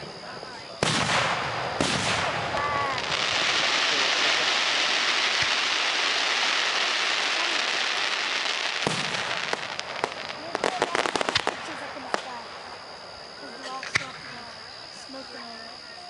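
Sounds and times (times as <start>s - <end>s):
firework bang: 0.0s - 12.9s
fireworks crackling: 0.0s - 15.9s.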